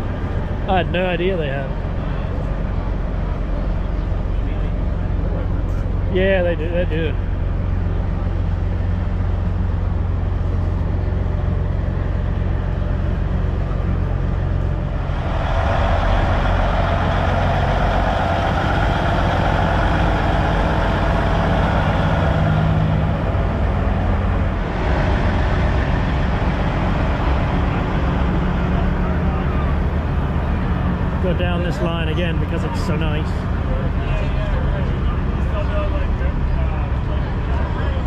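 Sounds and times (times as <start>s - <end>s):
diesel truck engine idling: 0.0s - 38.0s
midrange noise: 0.0s - 38.0s.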